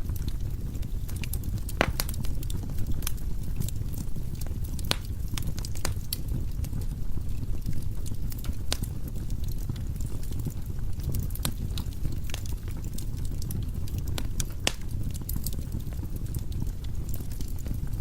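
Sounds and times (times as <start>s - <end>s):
burning logs crackling and popping: 0.0s - 18.0s
low rumble of flames: 0.0s - 18.0s.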